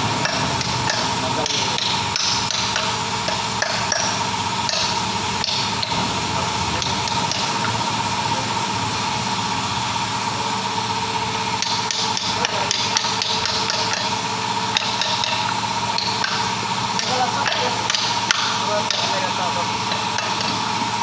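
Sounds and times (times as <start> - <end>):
hand tools knocking on metal: 0.0 - 7.9, 11.6 - 21.0
steady high hum: 0.0 - 21.0.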